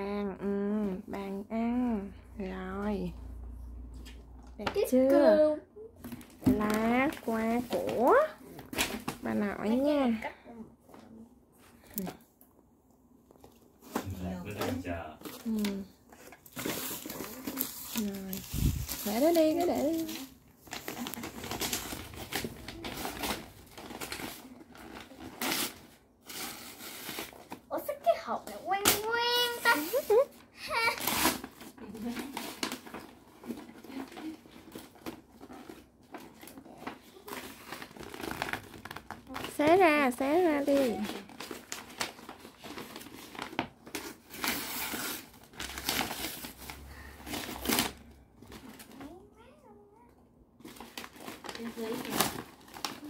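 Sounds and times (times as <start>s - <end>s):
wrapping paper rustling and tearing: 6.0s - 10.3s, 13.4s - 49.7s, 50.6s - 53.0s.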